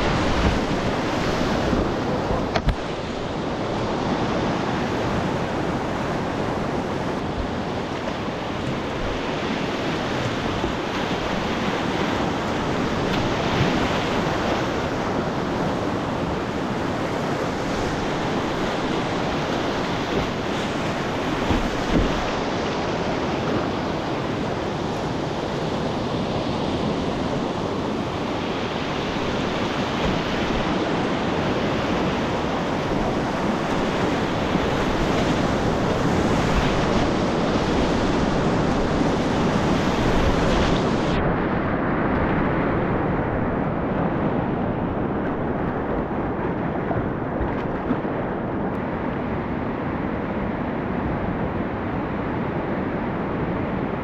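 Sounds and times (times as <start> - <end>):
rushing whitewater rapid: 0.0 - 54.0
wind on microphone: 0.0 - 54.0.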